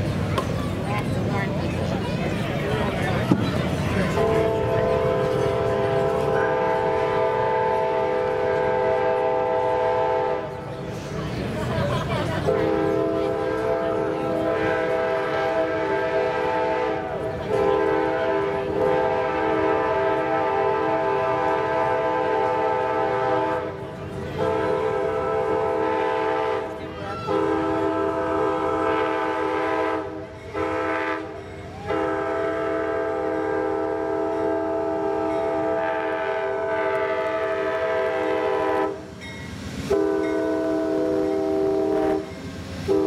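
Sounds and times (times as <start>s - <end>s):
low rumble of train: 0.0s - 43.0s
train air horn blasts: 4.1s - 10.6s, 12.5s - 39.1s, 39.8s - 43.0s.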